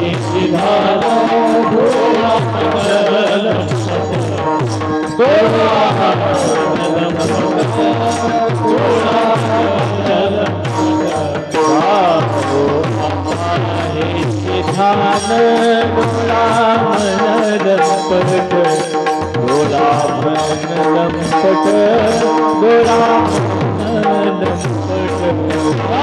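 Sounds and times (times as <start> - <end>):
hand drum rhythm: 0.0 - 26.0.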